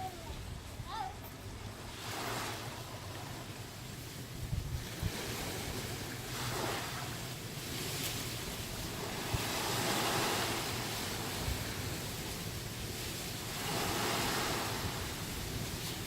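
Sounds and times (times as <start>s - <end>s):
waves breaking on shore: 0.0s - 16.0s
wind buffeting microphone: 0.0s - 16.0s.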